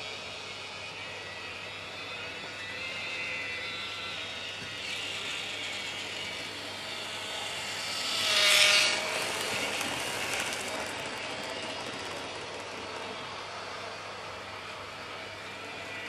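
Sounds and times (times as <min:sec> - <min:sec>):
model train clicking and whirring: 0:00.0 - 0:16.0.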